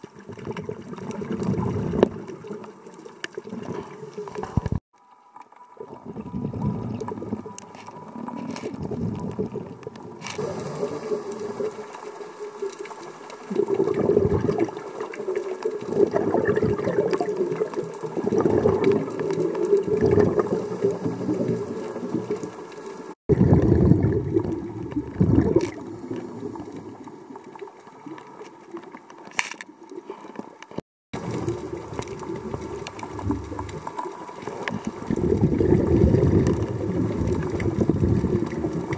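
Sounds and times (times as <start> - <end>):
underwater exhaled bubbles: 0.0 - 4.8, 5.6 - 29.2, 29.8 - 38.9.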